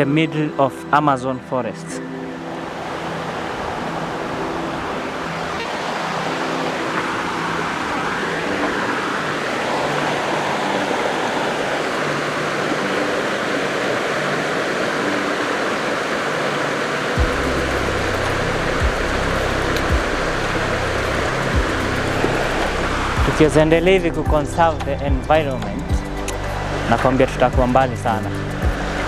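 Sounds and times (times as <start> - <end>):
faint background music: 0.0 - 29.0
waterfall rushing: 2.1 - 24.4, 25.8 - 29.0.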